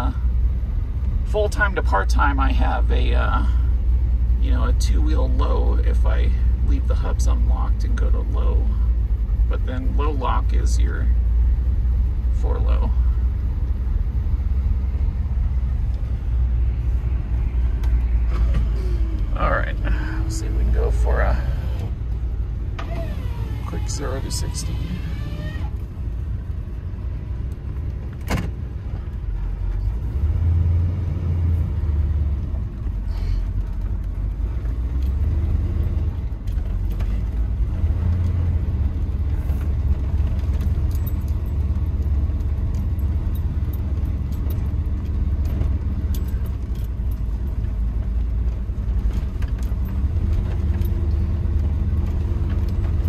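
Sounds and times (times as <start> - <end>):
engine accelerating with exhaust rumble: 0.0 - 53.0.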